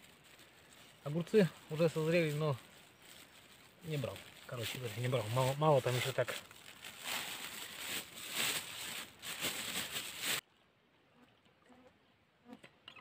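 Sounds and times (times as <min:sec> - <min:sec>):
plastic bag rustling: 0:00.0 - 0:10.4.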